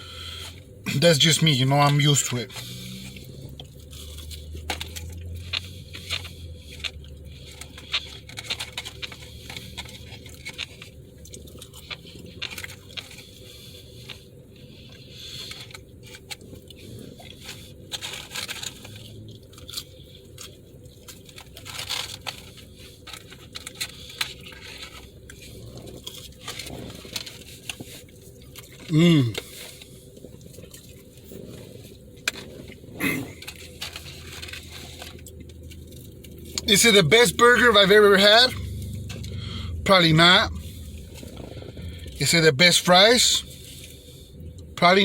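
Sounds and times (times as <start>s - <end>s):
person chewing crunchy fries: 0.0s - 44.8s
food packaging rustling: 1.4s - 42.3s.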